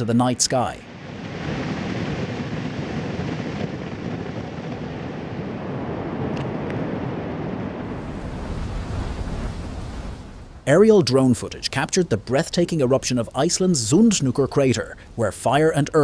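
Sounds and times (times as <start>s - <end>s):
volcano eruption roar: 0.0s - 13.6s.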